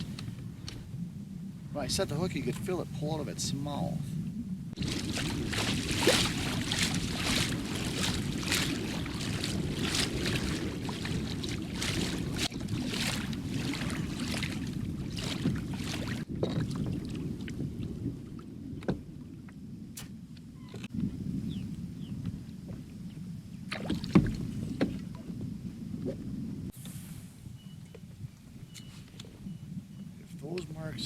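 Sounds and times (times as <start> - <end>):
water swishing around kayak: 0.0 - 21.4, 22.1 - 31.0.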